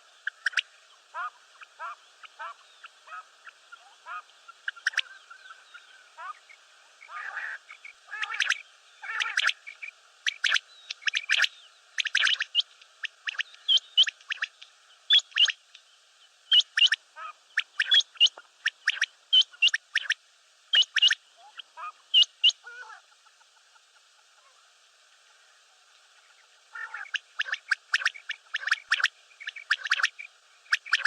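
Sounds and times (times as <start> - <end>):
steady hiss: 0.0 - 31.0
quail calling: 0.2 - 15.6, 16.5 - 24.6, 26.7 - 31.0.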